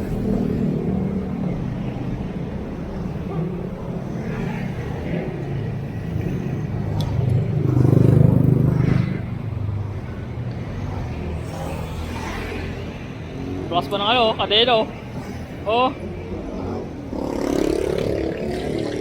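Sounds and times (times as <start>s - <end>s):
road traffic: 0.0s - 19.0s
vehicle passing: 0.0s - 19.0s.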